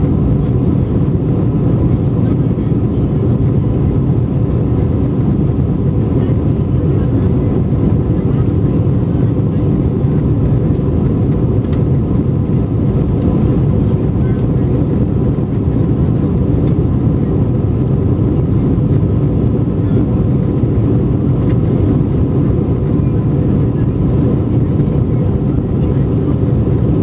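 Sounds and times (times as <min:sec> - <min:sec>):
jet engines roaring in cabin: 0:00.0 - 0:27.0.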